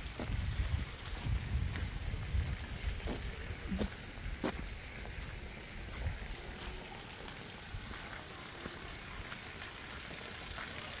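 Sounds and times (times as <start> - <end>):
rain on concrete: 0.0 - 11.0.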